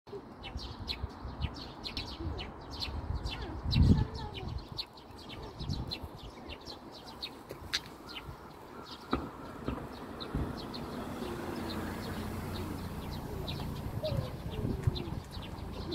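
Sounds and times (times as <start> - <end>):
small birds chirping: 0.1 - 15.9.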